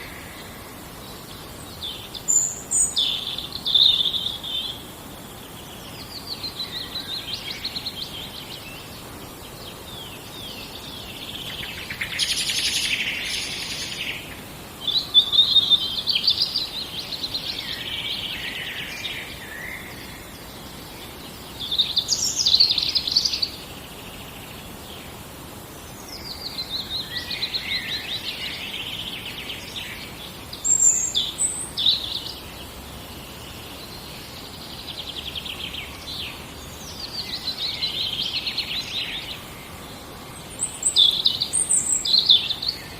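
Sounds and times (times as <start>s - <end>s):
faint steady hiss: 0.0s - 42.9s
songbirds singing: 0.0s - 42.9s.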